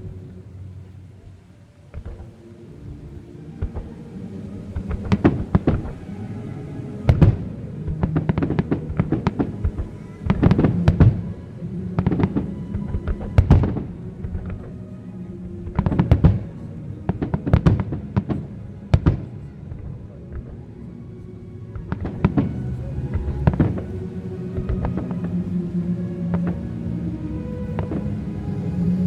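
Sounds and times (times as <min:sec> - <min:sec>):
music with sustained notes: 0:00.0 - 0:29.0.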